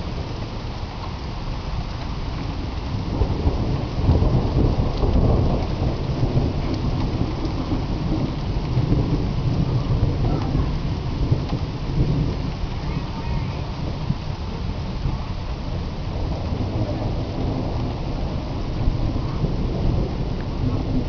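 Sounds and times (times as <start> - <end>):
rolling thunder: 0.0 - 21.0
steady rain: 0.0 - 21.0.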